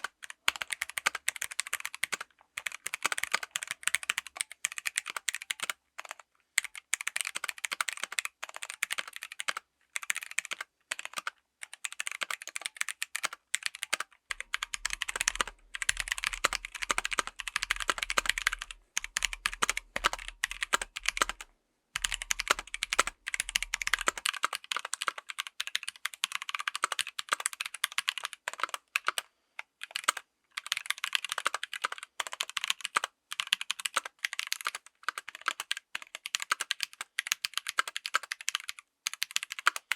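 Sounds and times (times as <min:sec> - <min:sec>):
fast mechanical keyboard typing: 0:00.0 - 0:29.2, 0:29.8 - 0:39.9.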